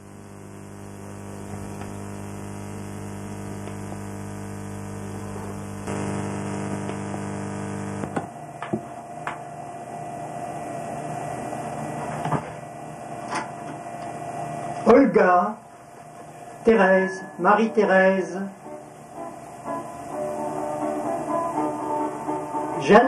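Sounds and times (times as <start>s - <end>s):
electrical mains hum and hiss: 0.0s - 23.0s
steady whine: 0.0s - 23.0s.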